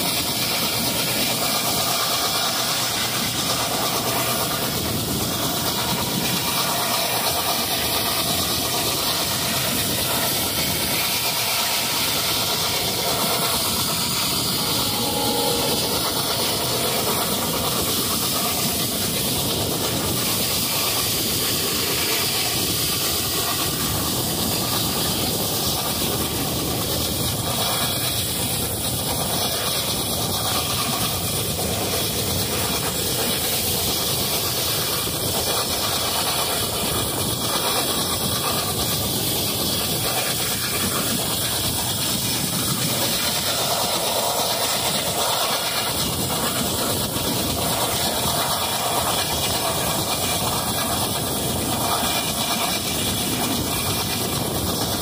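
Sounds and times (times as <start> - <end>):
train running heard on board: 0.0 - 55.0.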